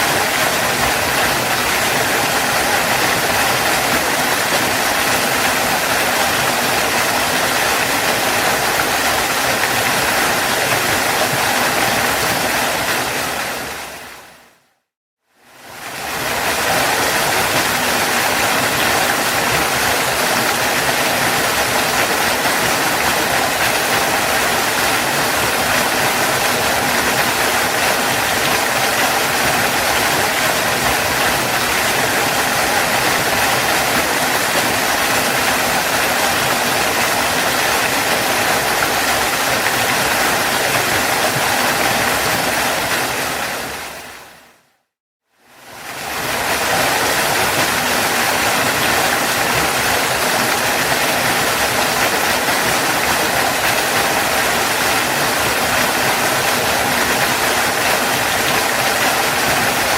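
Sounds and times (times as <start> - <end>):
waterfall splashing: 0.0 - 14.6, 15.4 - 44.7, 45.6 - 59.9.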